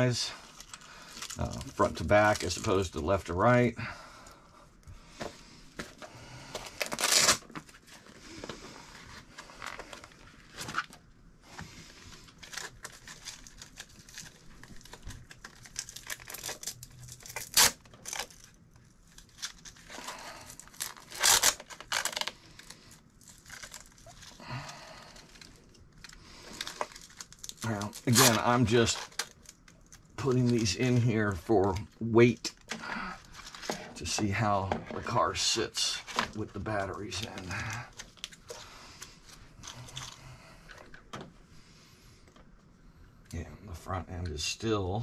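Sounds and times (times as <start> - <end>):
crinkling and rustling handling: 0.0 - 45.0.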